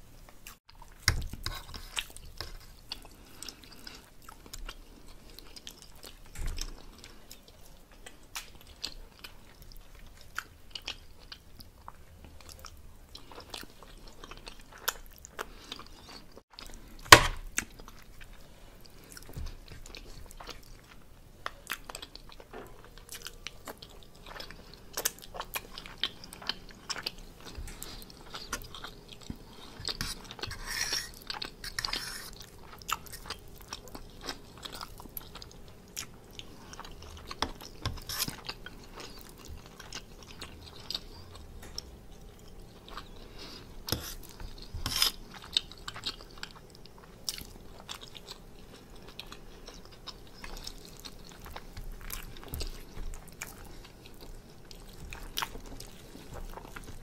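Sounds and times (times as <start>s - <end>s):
person chewing: 0.2s - 57.0s.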